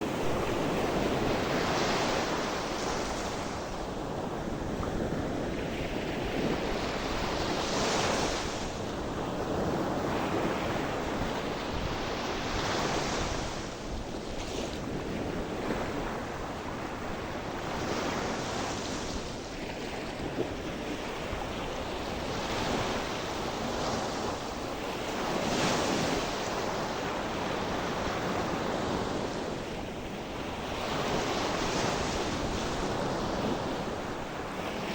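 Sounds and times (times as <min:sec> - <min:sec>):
waves breaking ashore: 0:00.0 - 0:34.9
wind on microphone: 0:00.0 - 0:34.9.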